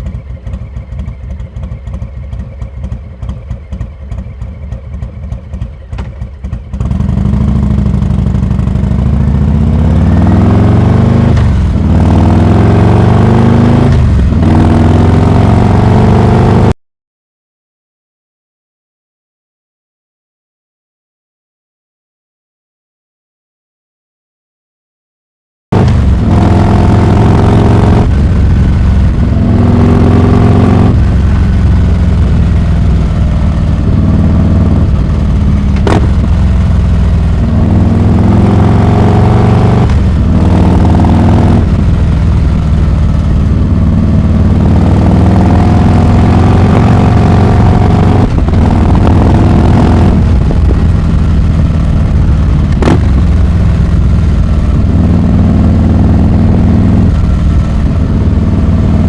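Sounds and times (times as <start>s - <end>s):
motorcycle engine accelerating: 0.0s - 16.8s, 25.7s - 59.0s.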